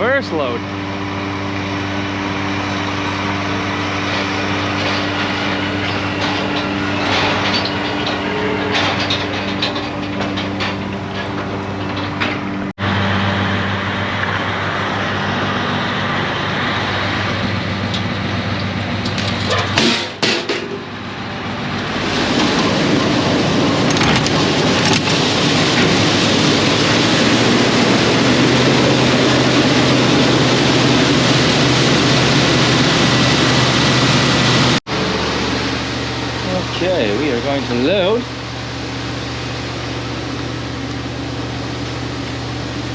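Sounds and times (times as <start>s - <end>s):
grain auger rushing: 0.0s - 20.2s, 21.7s - 38.4s
tractor diesel engine running: 0.0s - 42.9s.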